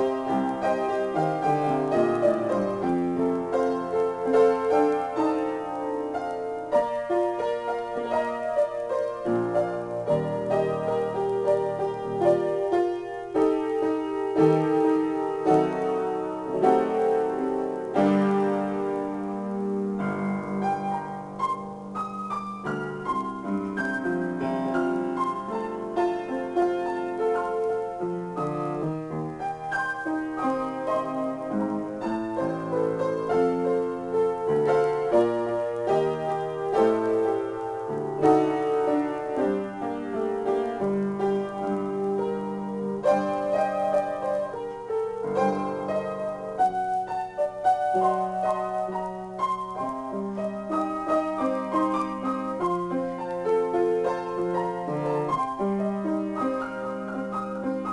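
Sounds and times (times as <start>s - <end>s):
solo piano improvisation: 0.0s - 57.9s.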